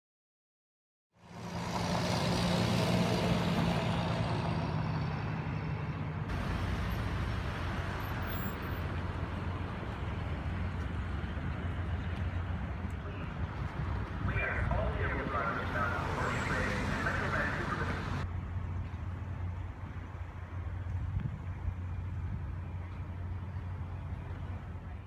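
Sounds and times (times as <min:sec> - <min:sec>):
road noise: 0:01.1 - 0:25.0
vehicle engine hum: 0:01.2 - 0:25.0.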